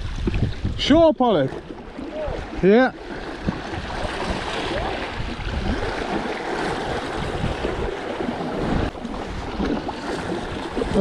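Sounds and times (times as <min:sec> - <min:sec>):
wind on microphone: 0:00.0 - 0:01.2, 0:02.0 - 0:11.0
waves washing against rocks: 0:00.0 - 0:11.0.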